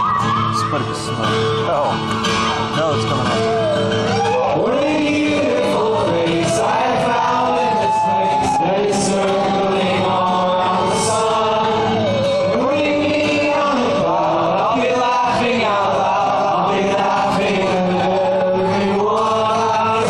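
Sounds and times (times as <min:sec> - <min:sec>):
strummed acoustic guitar: 0:00.0 - 0:20.0
man singing: 0:02.8 - 0:20.0
audience singing along: 0:03.4 - 0:20.0.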